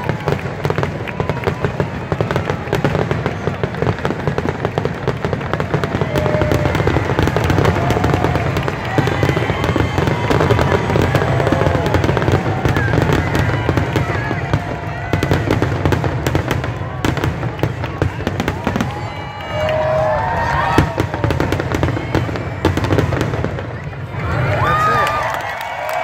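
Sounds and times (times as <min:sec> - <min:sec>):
firework shells bursting and crackling: 0:00.0 - 0:24.0.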